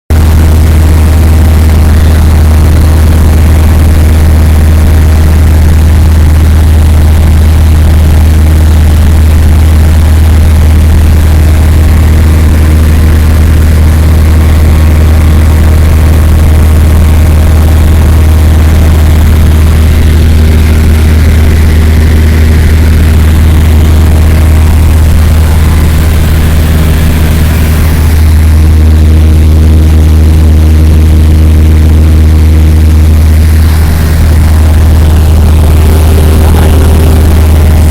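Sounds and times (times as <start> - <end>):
propeller plane engine droning: 0.1 - 37.9.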